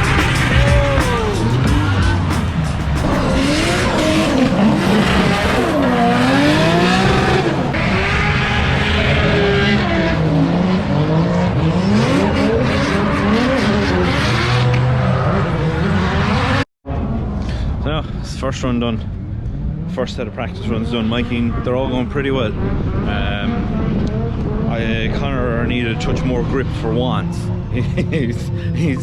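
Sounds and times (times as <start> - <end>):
car engines revving hard: 0.0 - 29.0.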